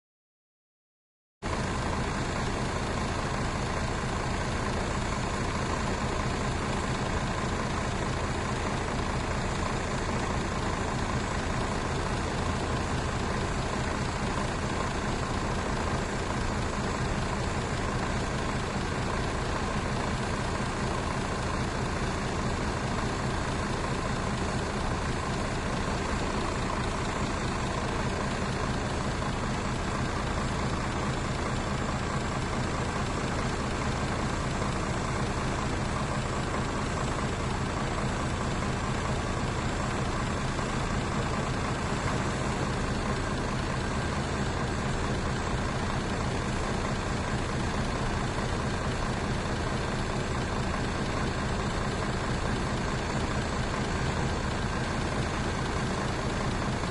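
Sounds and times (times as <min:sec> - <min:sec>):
bus engine idling: 0:01.4 - 0:56.9.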